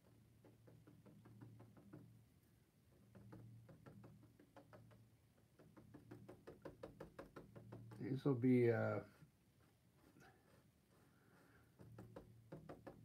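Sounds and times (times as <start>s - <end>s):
paintbrush tapping on canvas: 0.0s - 2.2s, 2.9s - 8.7s, 10.0s - 13.0s.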